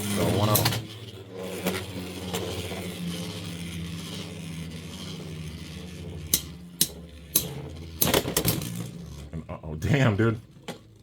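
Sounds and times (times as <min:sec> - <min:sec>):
spinning tops whirring: 0:00.0 - 0:09.3.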